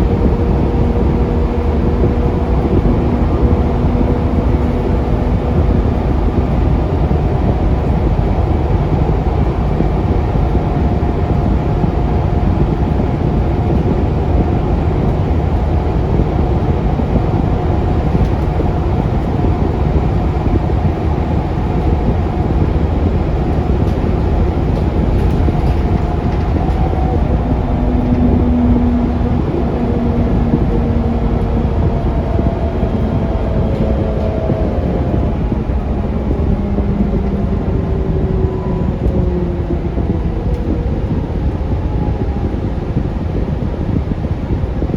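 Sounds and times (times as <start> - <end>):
bus engine low rumble: 0.0 - 44.9
faint whine: 0.0 - 44.9.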